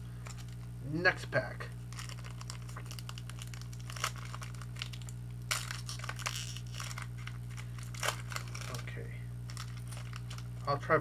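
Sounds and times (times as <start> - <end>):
steady low hum: 0.0 - 11.0
foil pack tearing and crinkling: 1.8 - 10.8.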